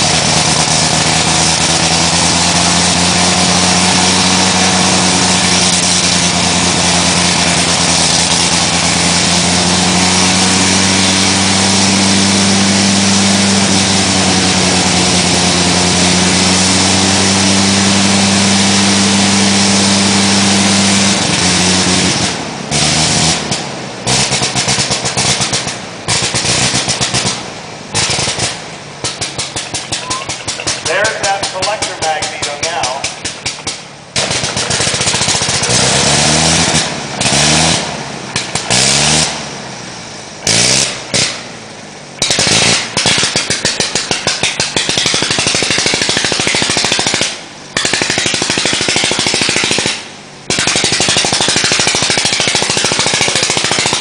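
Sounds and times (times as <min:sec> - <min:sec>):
aircraft engine running: 0:00.0 - 0:54.0.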